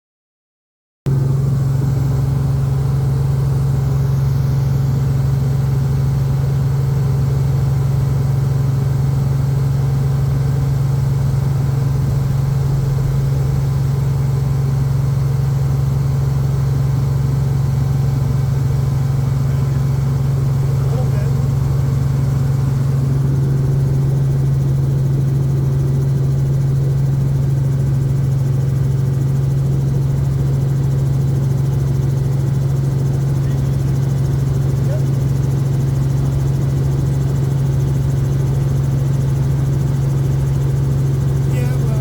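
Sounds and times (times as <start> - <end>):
helicopter engine and rotor: 1.1 - 42.0.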